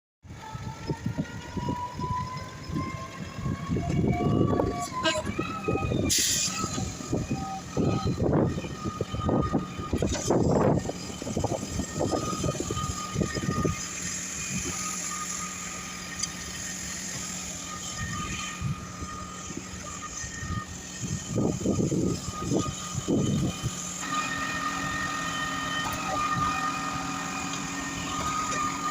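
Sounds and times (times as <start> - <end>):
truck engine humming: 0.2 - 28.9.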